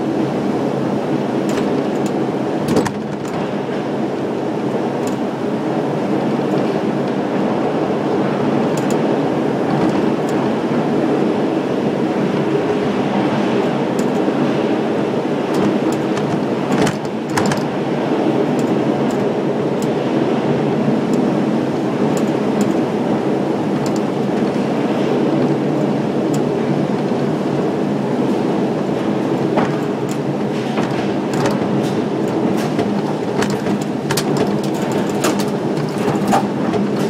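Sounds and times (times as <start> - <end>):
tram mechanical running noise: 0.0 - 37.0.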